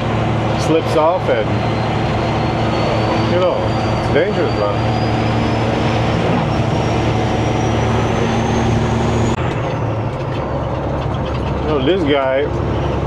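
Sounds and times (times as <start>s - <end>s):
diesel truck engine cruising: 0.0s - 13.0s
road and wind noise: 0.0s - 13.0s.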